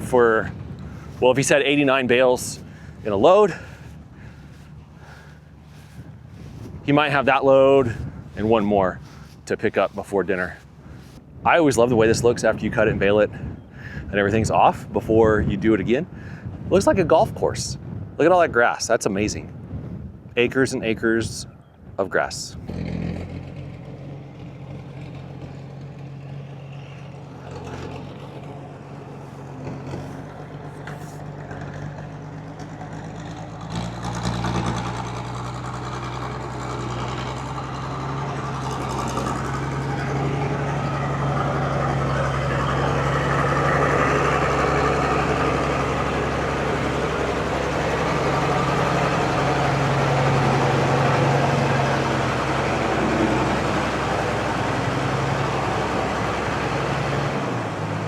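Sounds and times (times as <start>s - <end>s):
engine running: 0.0s - 11.5s, 22.6s - 58.0s.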